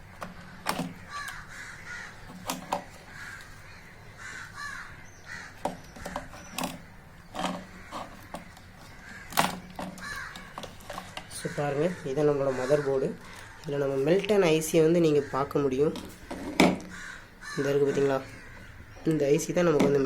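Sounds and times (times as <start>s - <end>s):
crows cawing: 0.3s - 19.0s.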